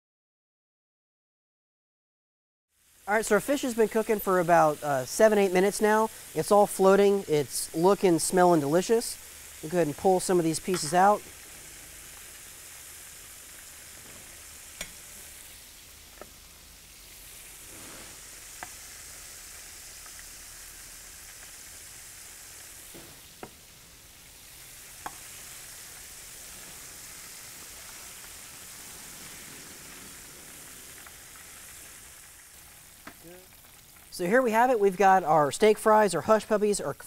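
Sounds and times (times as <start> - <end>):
fish deep-frying in hot oil: 2.7 - 37.0.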